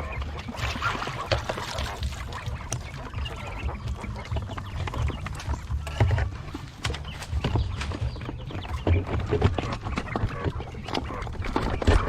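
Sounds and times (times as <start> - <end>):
steady low rumble: 0.0 - 11.5
faint quail chirps: 0.0 - 12.0
quail tapping and clicking: 0.0 - 12.0.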